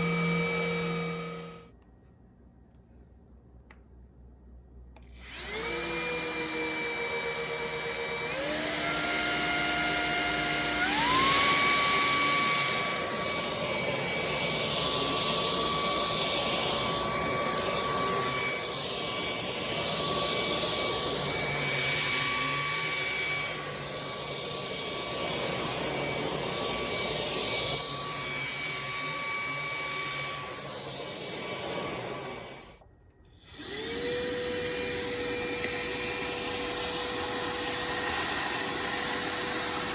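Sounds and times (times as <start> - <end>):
vacuum motor whine: 0.0 - 1.7, 5.0 - 39.9.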